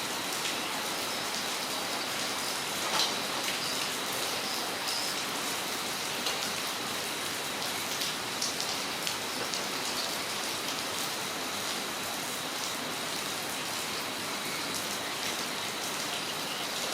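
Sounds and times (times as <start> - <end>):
steady rain hiss: 0.0 - 16.9
water drips and splashes: 0.1 - 16.9.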